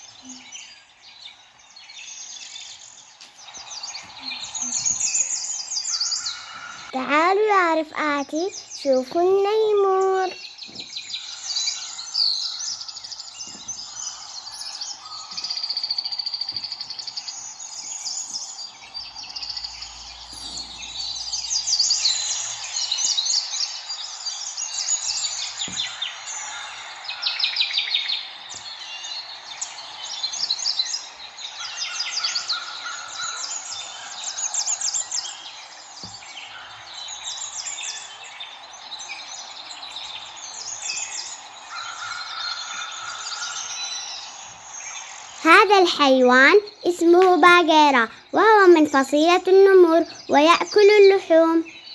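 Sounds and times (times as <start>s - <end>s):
small birds chirping and trilling: 0.0s - 51.9s.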